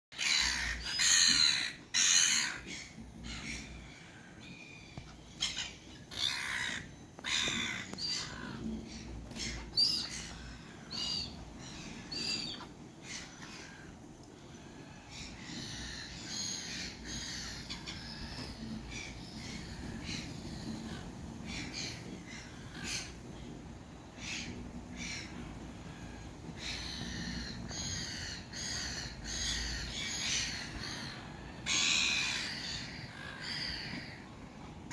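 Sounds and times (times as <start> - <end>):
gulls calling: 0.1 - 34.9.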